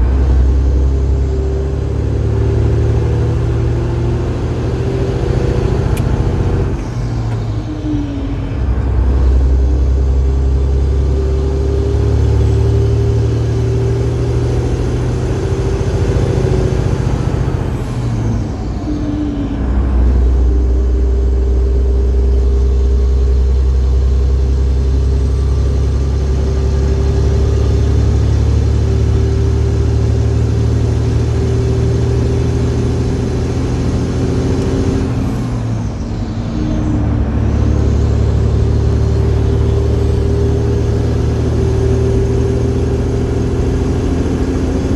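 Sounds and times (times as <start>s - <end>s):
truck diesel engine under load: 0.0s - 44.9s
turbo whine: 0.0s - 44.9s.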